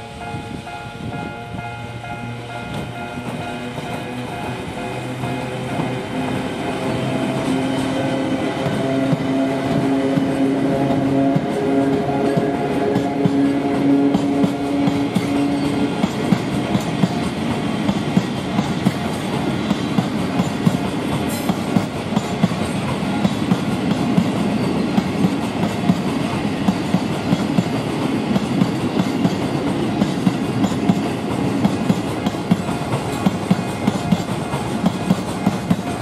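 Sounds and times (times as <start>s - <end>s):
freight train rumbling past: 0.0s - 36.0s
wheels clacking over rail joints: 1.2s - 36.0s.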